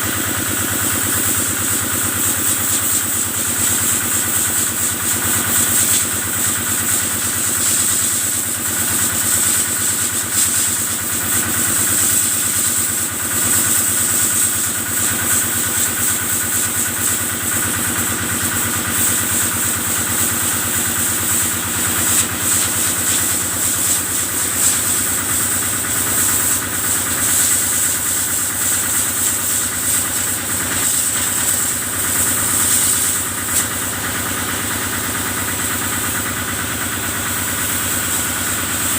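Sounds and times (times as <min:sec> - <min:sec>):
water spray hissing: 0:00.0 - 0:36.6
diesel engine running: 0:00.0 - 0:38.9.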